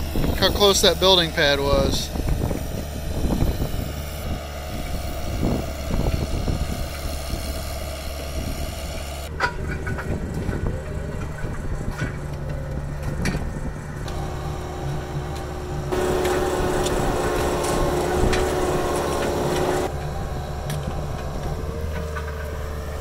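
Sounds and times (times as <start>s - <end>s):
machine engine humming: 0.0s - 23.0s.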